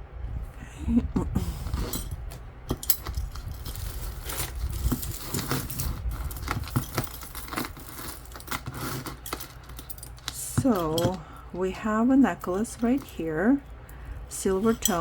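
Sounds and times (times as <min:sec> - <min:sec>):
metal jewelry clinking: 0:01.6 - 0:15.0.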